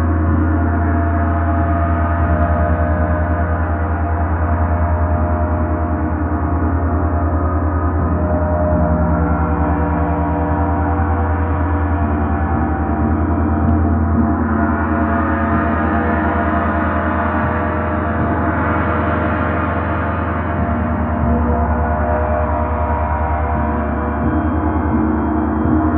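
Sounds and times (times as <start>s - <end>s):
gong ringing: 4.6s - 25.9s.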